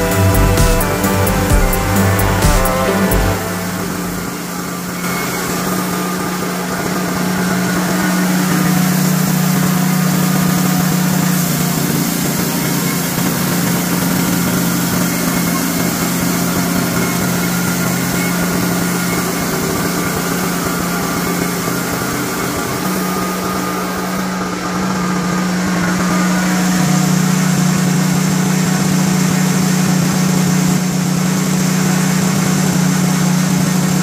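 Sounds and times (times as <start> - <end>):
sawmill engine running: 0.0 - 34.0.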